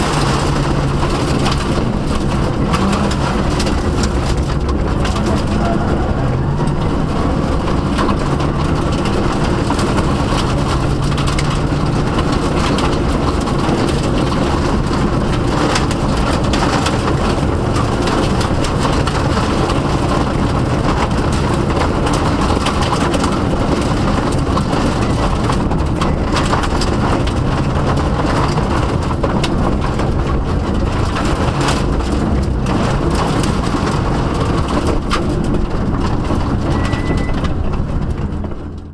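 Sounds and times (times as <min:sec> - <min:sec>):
car engine running hard: 0:00.0 - 0:38.9
gravel rattling on car underbody: 0:00.0 - 0:38.9.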